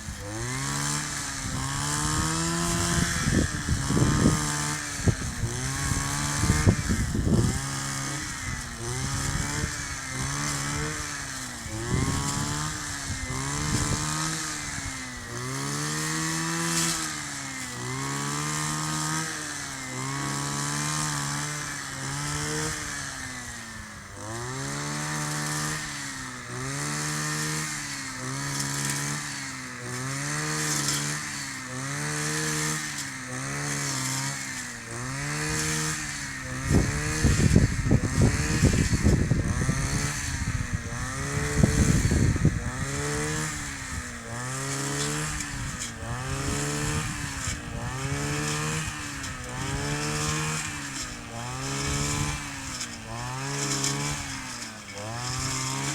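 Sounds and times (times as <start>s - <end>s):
brush cutter engine cutting grass: 0.0s - 55.9s.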